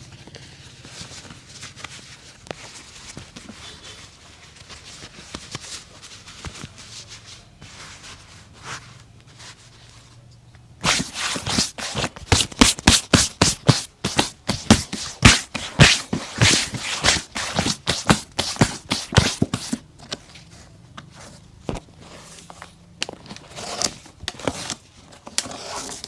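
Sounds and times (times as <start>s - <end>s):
faint handling sounds: 0.0s - 12.4s, 13.4s - 26.0s.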